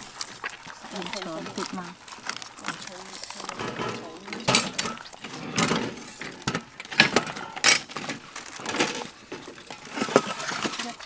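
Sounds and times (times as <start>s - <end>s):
rustling and scraping on bamboo tray: 0.0s - 11.0s.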